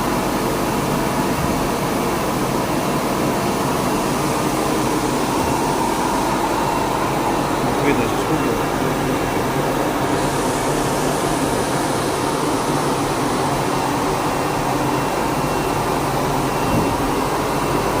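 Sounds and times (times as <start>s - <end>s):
cutting plotter machine noise: 0.0s - 18.0s.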